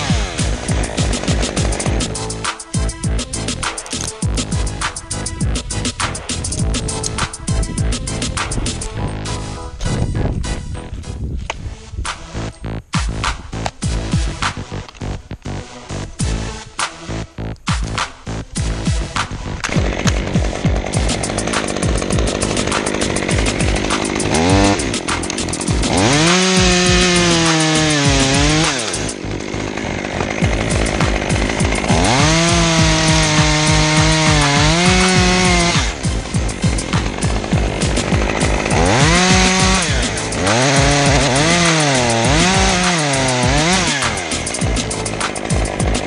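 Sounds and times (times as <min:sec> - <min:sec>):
chainsaw revving and idling: 0:00.0 - 0:09.6, 0:13.0 - 0:46.0.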